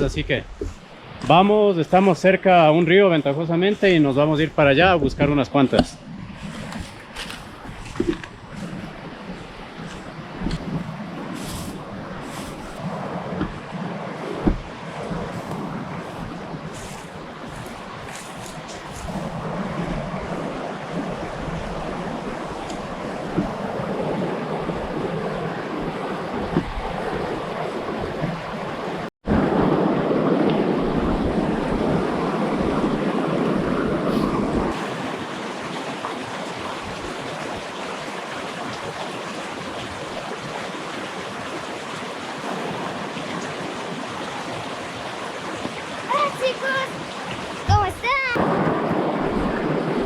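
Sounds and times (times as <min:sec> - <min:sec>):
rushing river water: 0:00.0 - 0:50.0.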